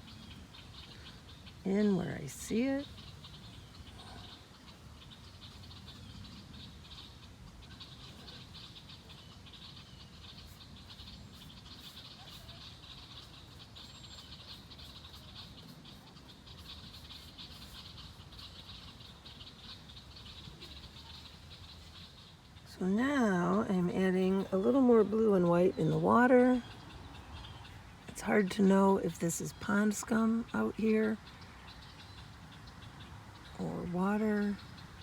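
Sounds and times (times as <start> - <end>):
frogs calling in a pulsing trill: 0.0 - 35.0.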